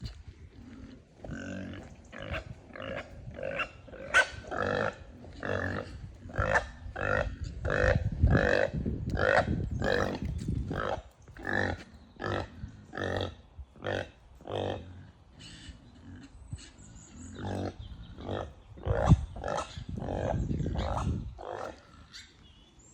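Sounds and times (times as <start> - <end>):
pigs grunting and squealing: 0.0 - 22.4.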